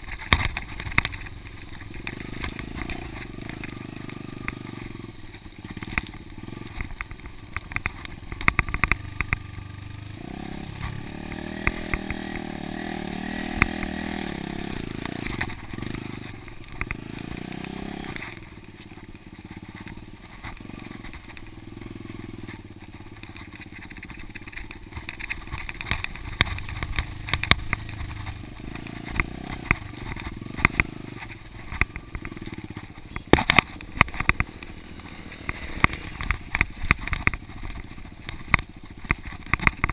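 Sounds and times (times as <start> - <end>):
dirt bike engine revving: 0.0 - 39.9
sharp clicks and knocks: 0.0 - 39.9.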